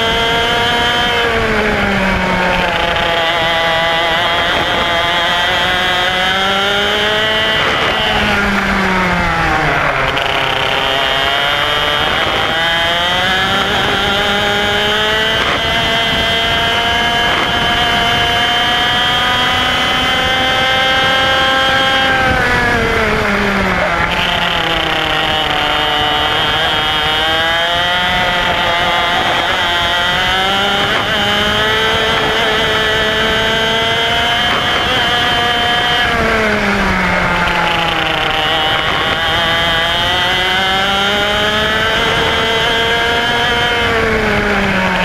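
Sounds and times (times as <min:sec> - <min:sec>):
kart engine racing: 0:00.0 - 0:45.0.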